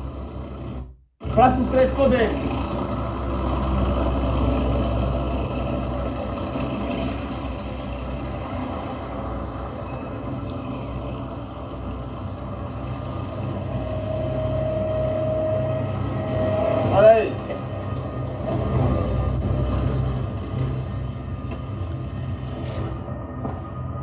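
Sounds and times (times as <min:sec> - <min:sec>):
steady high whine: 0:00.0 - 0:24.0
tracked vehicles driving past: 0:00.0 - 0:24.0.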